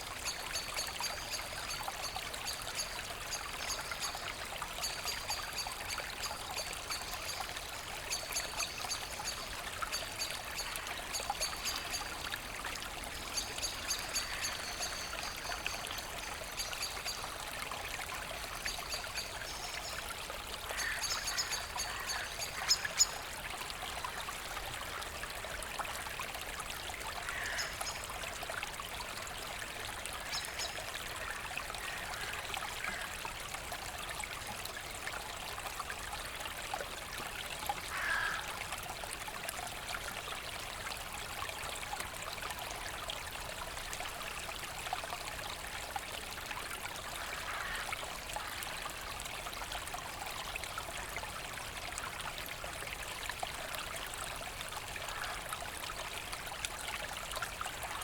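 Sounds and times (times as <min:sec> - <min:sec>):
brook flowing and trickling: 0:00.0 - 0:58.0.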